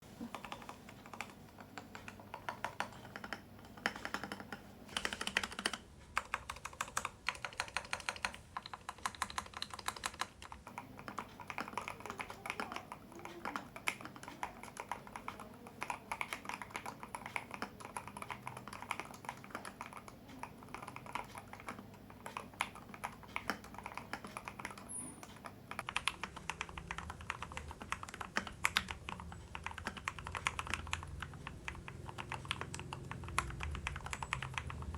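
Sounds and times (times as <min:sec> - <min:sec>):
fast mechanical keyboard typing: 0:00.3 - 0:34.9.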